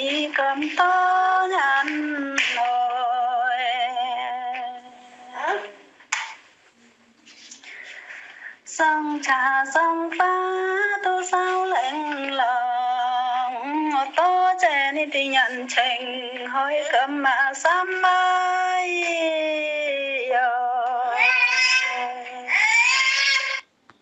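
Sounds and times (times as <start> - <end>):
person singing unaccompanied: 0.0 - 5.9, 8.7 - 22.6.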